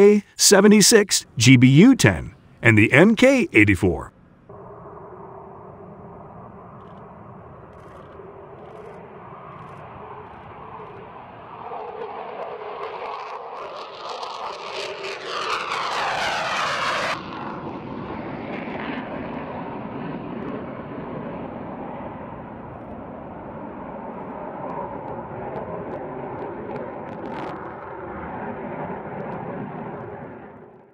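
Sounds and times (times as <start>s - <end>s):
distant jet noise: 0.0s - 30.7s.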